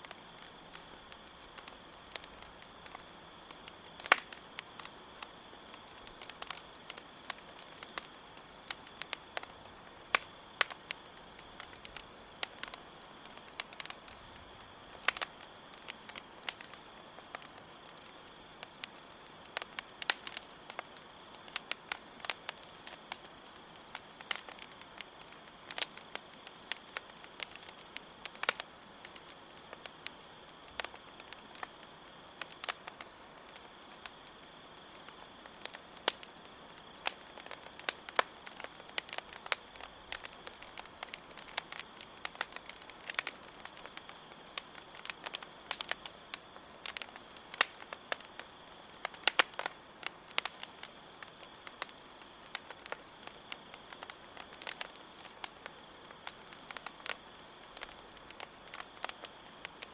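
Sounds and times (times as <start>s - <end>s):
campfire crackling: 0.0s - 59.9s
crickets chirping: 0.0s - 59.9s.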